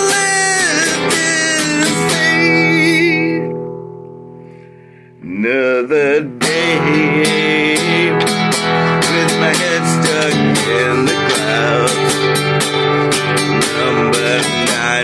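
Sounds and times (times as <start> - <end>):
man singing: 0.0 - 3.5, 5.2 - 15.0
acoustic guitar strumming: 0.0 - 15.0.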